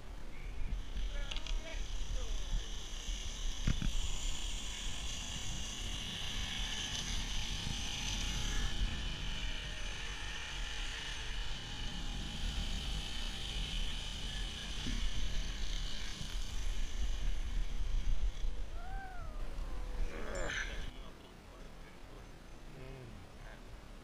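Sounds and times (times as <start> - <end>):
zipline pulleys whirring on cable: 0.6 - 21.0.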